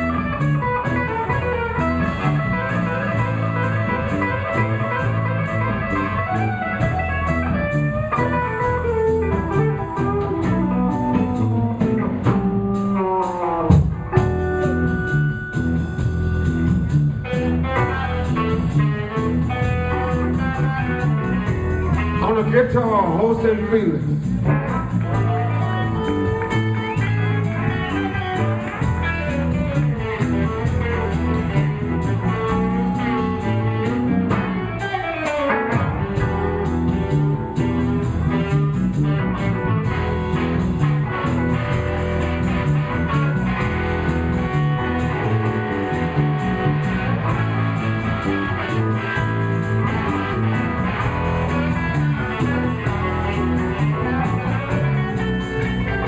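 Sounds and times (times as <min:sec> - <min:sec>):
bass and drums: 0:00.0 - 0:56.0
guitar solo: 0:00.0 - 0:56.0.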